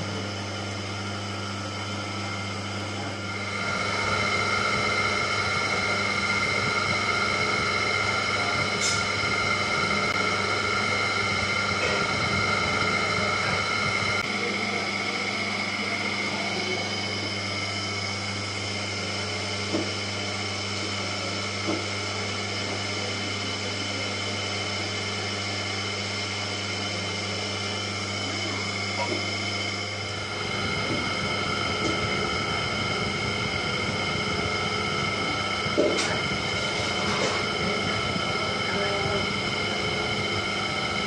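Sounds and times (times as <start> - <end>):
potter's wheel motor humming: 0.0 - 41.0.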